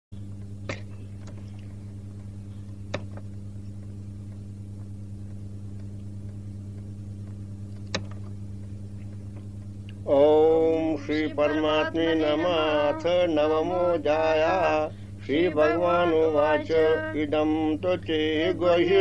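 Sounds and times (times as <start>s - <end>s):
low electrical hum with hiss: 0.2s - 19.0s.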